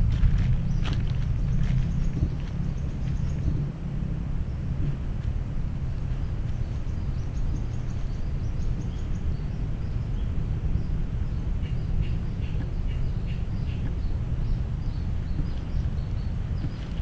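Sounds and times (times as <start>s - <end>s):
birds chirping: 0.0s - 17.0s
wind rumbling on microphone: 0.0s - 17.0s.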